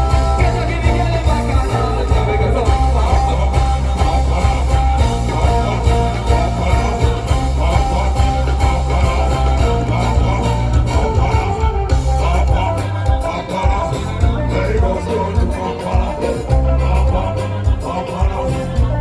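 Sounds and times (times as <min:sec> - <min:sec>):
band music with heavy bass and guitar: 0:00.0 - 0:19.0.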